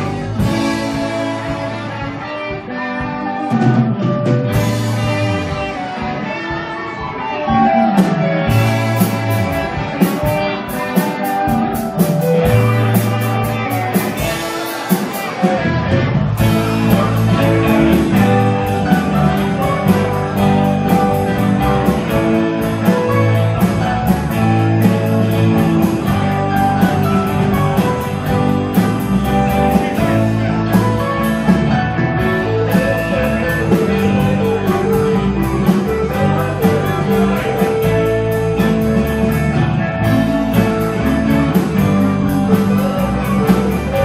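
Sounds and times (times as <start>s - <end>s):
bass guitar: 0.0s - 44.0s
drum kit: 0.0s - 44.0s
electric guitars: 0.0s - 44.0s.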